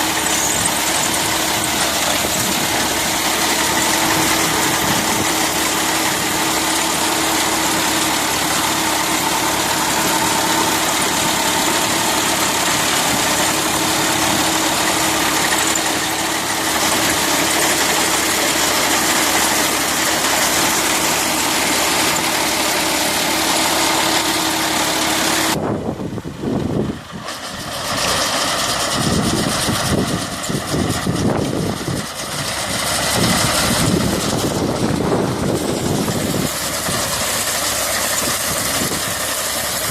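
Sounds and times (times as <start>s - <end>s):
rough uneven mechanical noise: 0.0s - 39.9s
tractor engine running: 0.0s - 39.9s.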